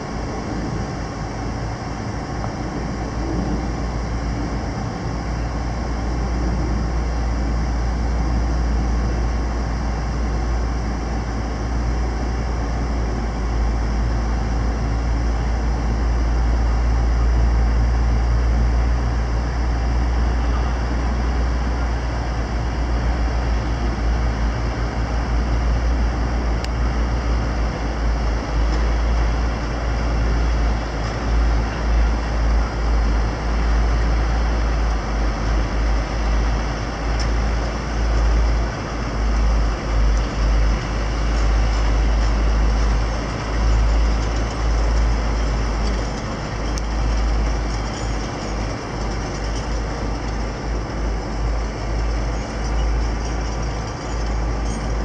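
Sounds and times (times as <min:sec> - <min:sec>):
uneven low rumble: 0:00.0 - 0:55.0.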